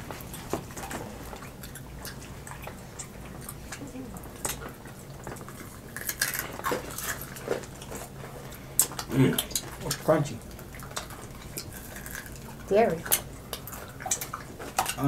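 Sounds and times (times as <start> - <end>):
person chewing: 0.0 - 15.0
fried chicken crunching: 0.2 - 15.0.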